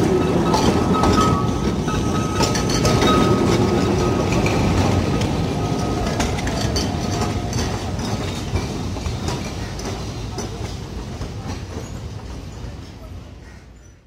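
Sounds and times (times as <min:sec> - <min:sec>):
tram rumbling on rails: 0:00.0 - 0:14.0
wheels clacking on track: 0:00.0 - 0:14.0.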